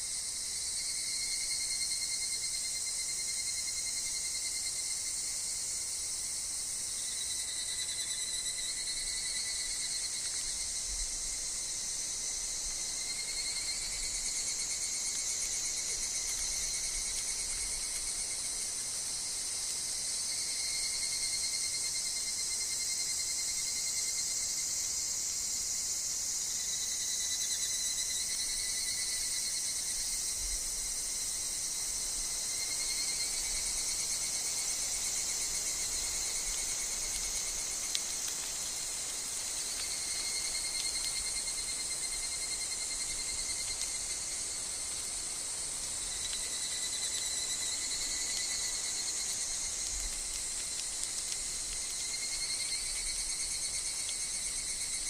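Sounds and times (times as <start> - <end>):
cicadas and insects calling: 0.0 - 55.0.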